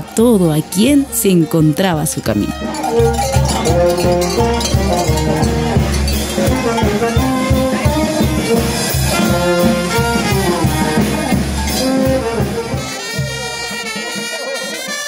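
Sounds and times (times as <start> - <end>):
brass band music: 0.0 - 15.0
steady drum beat: 0.0 - 15.0.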